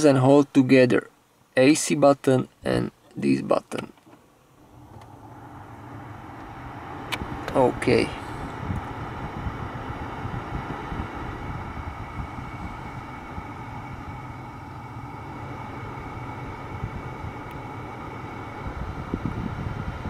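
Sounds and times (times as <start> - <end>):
car cabin low hum: 2.7 - 20.0.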